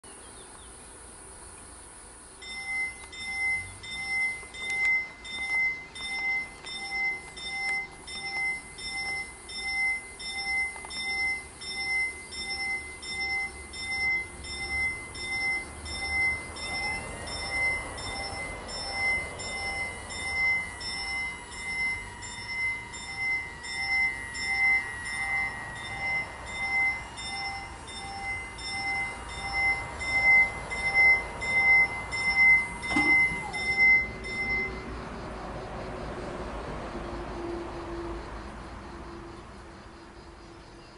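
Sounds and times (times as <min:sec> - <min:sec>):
barrier motor whine: 0:01.0 - 0:38.2
level crossing warning bell: 0:02.4 - 0:35.7.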